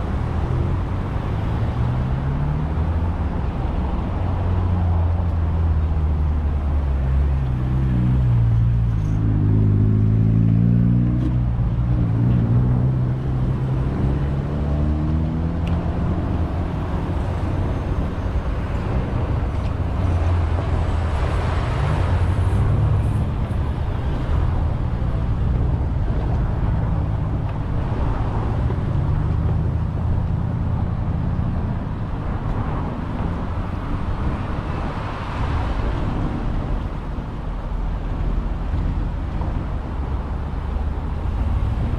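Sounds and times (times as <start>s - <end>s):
diesel locomotive engine drone: 0.0s - 41.9s
freight cars rumbling on rails: 0.0s - 41.9s.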